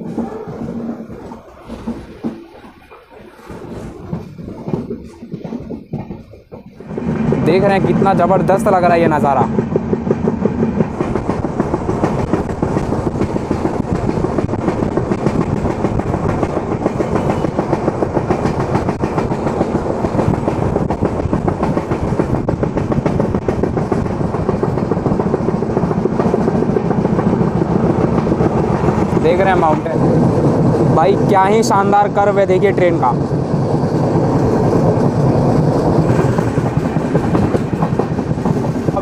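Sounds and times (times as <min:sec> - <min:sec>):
train wheels clattering over rails: 0:00.0 - 0:39.0.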